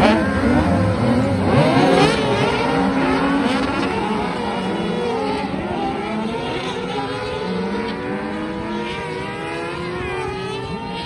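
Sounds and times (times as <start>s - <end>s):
racing buggy engines revving: 0.0s - 11.0s.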